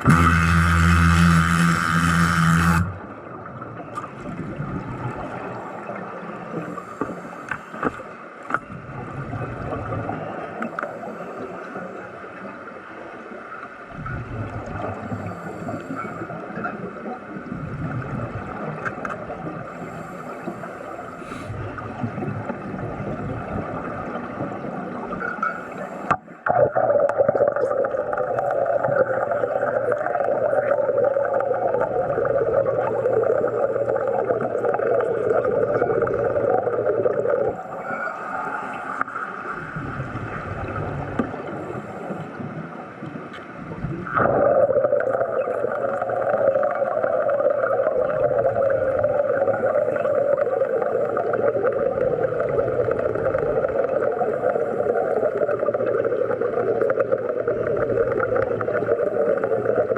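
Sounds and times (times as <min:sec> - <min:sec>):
hiss of air and bubbles: 0:00.0 - 0:59.9.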